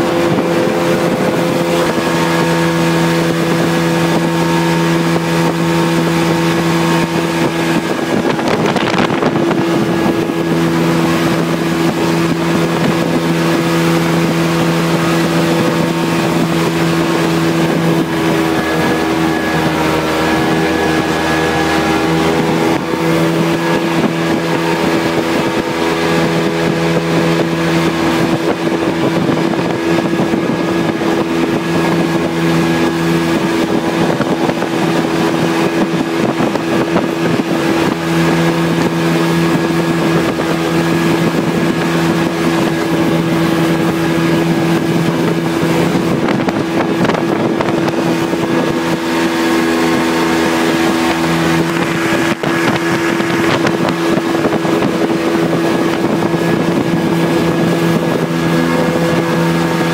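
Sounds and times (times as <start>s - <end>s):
boat engine droning: 0.0s - 59.9s
water rushing: 0.0s - 59.9s
wind on microphone: 0.0s - 59.9s.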